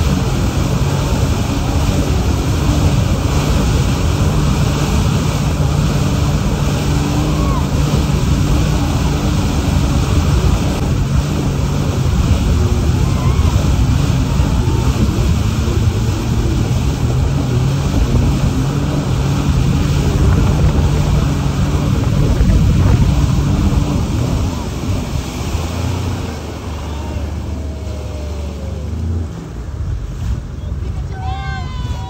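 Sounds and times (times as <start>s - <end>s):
motorboat engine running: 0.0s - 32.0s
water rushing: 0.0s - 32.0s
wind buffeting microphone: 0.0s - 32.0s.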